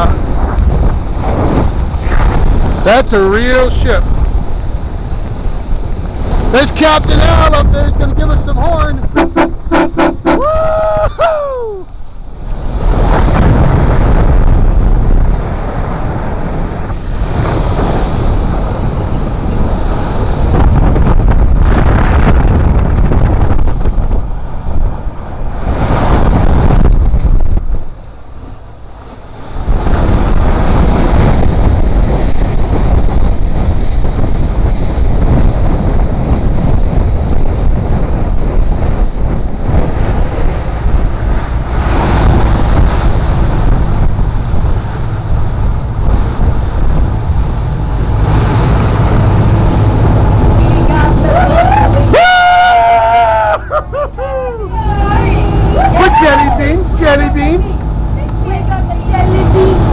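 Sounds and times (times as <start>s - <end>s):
boat engine running fast: 0.0s - 59.9s
rushing water: 0.0s - 59.9s
wind buffeting microphone: 0.0s - 59.9s.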